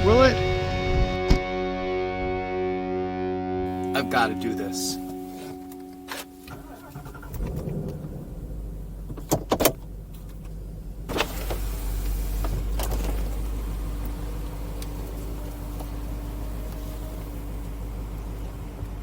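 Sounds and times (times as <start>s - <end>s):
car engine low hum: 0.0s - 19.0s.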